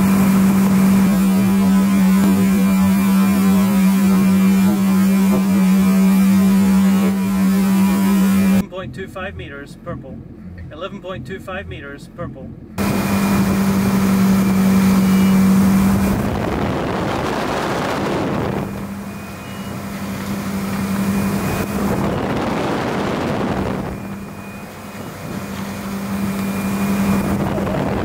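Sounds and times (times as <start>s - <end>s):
rushing water and wind: 0.0s - 7.9s, 12.8s - 28.0s
boat engine humming: 0.0s - 28.0s.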